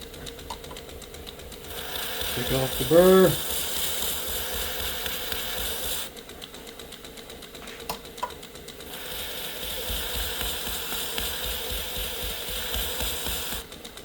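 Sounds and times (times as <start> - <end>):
belt sharpener motor hum: 0.0 - 7.4, 8.4 - 14.0.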